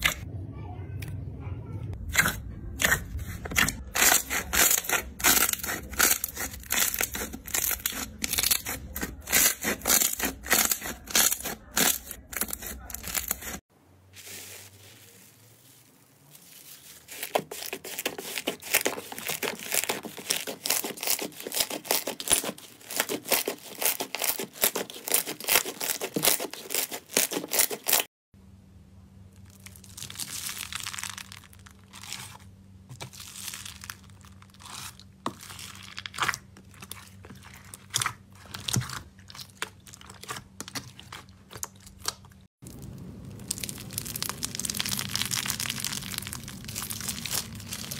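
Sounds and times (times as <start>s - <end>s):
slime crackling and squelching: 0.0s - 0.2s, 2.0s - 28.1s, 29.4s - 47.9s
foam-bead slime crunching: 2.1s - 28.1s, 29.3s - 47.9s.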